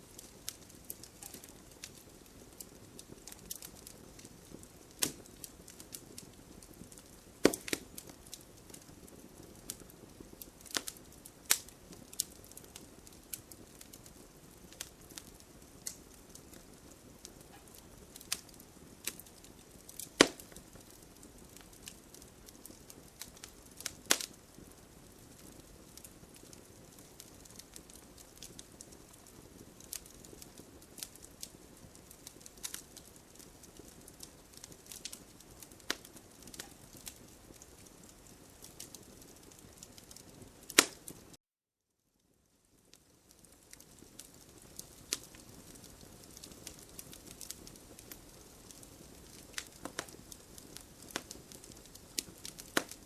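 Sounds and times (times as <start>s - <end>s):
burning wood crackling: 0.0s - 41.4s, 42.2s - 53.0s
campfire hissing: 0.0s - 41.4s, 42.8s - 53.0s.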